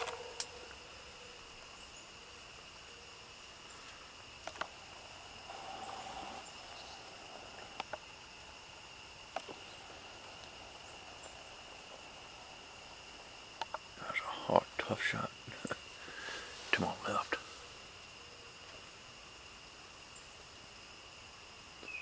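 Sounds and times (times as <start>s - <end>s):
insect chirring: 0.0s - 22.0s.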